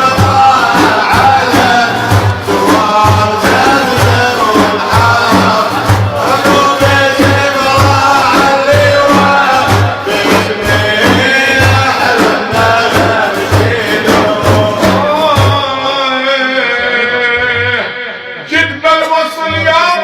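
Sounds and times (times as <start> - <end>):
loud drum beat: 0.0 - 16.3
men singing a refrain: 0.0 - 18.7.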